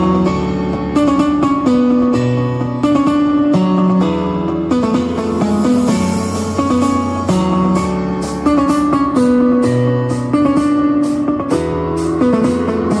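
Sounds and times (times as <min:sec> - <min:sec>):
plucked guitar music on speakers: 0:00.0 - 0:13.0.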